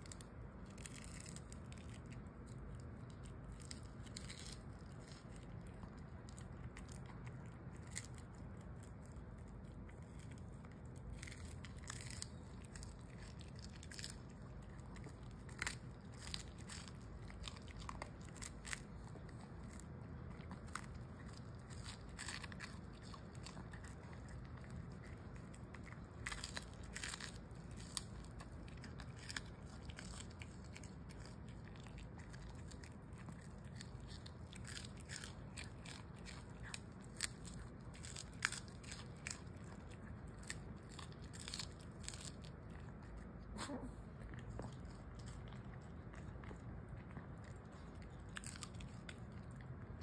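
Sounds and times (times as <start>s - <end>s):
dog chewing dried fish: 0.0s - 43.5s, 44.1s - 50.0s.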